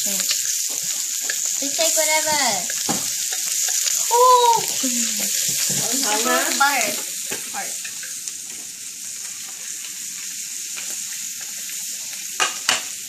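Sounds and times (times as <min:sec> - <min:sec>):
shrimp sizzling in butter: 0:00.0 - 0:13.0.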